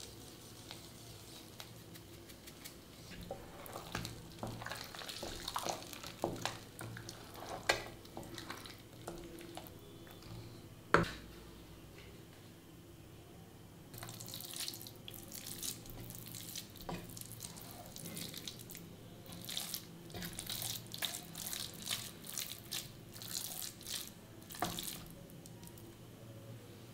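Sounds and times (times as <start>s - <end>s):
spatula squishing and scraping pot: 0.0s - 11.3s, 14.0s - 25.2s.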